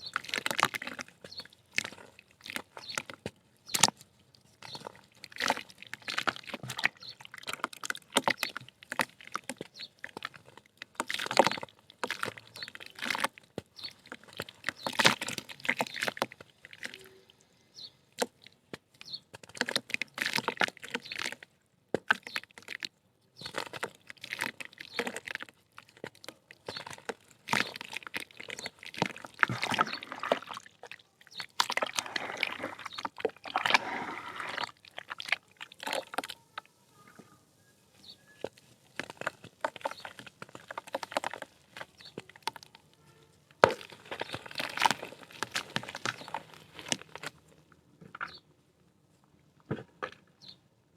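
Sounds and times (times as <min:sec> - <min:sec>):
mud crumbling and crunching: 0:00.0 - 0:48.5, 0:49.2 - 0:50.6.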